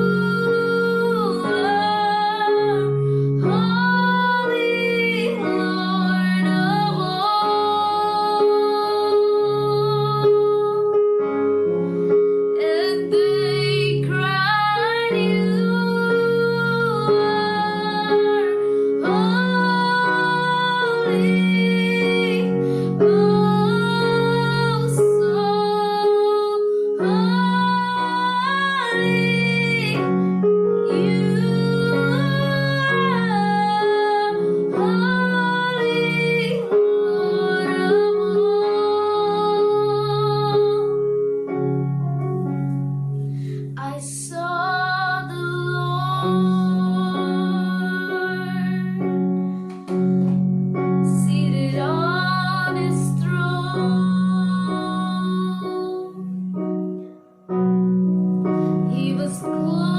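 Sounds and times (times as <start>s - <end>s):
woman singing slow melody: 0.0s - 11.8s, 12.5s - 41.8s, 43.6s - 50.1s, 51.0s - 56.7s, 58.8s - 59.9s
sustained keyboard chords: 0.0s - 59.9s.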